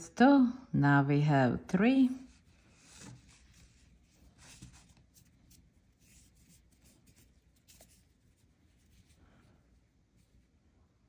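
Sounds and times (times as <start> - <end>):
yarn and crochet hook rustling: 1.8 - 10.7.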